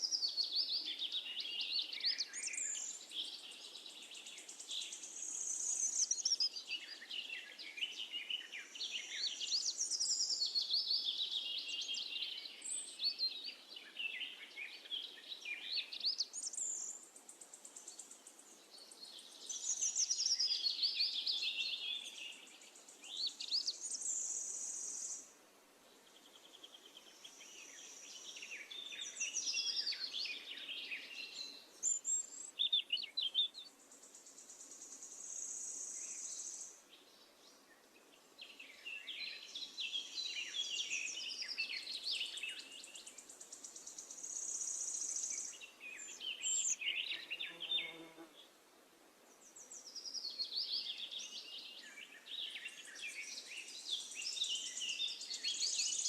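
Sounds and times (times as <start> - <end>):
faint background hiss: 0.0 - 56.0
songbirds chirping and trilling: 0.0 - 56.0.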